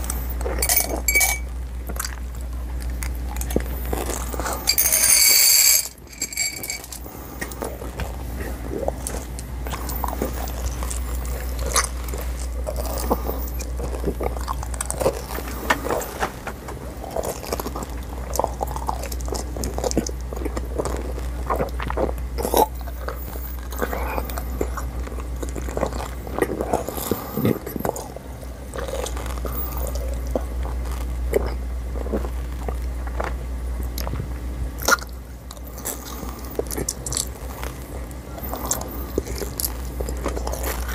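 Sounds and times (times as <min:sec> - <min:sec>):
low hum: 0:00.0 - 0:40.9.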